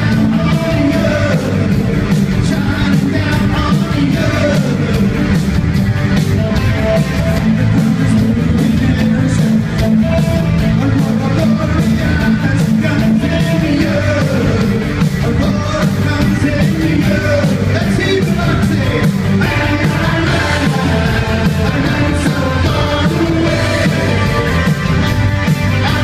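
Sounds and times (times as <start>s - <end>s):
man singing: 0.0s - 5.4s, 7.4s - 26.0s
live rock band playing: 0.0s - 26.0s.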